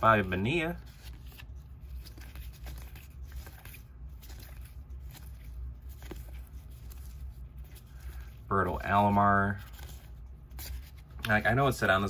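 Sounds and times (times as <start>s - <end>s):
cards rustling and ticking: 0.0s - 12.0s
steady low hum: 0.0s - 12.0s.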